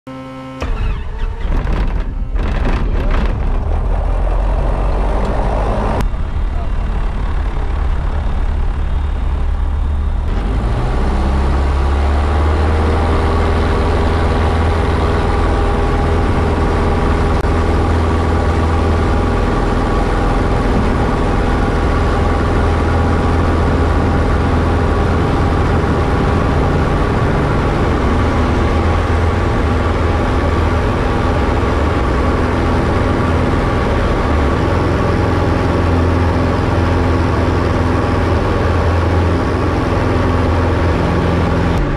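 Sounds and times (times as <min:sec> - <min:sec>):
light aircraft engine and propeller: 0:00.6 - 0:41.9.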